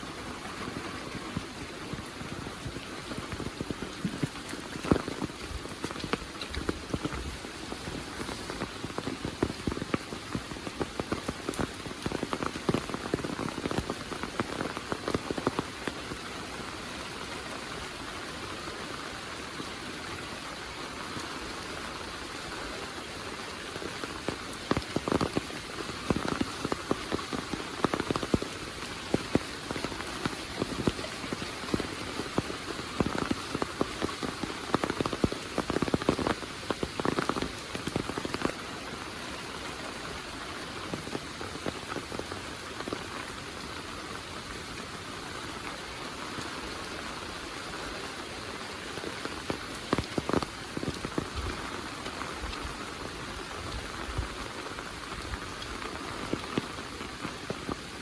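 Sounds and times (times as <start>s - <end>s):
heavy rain hissing: 0.0s - 58.0s
raindrops pattering on a surface: 0.0s - 58.0s.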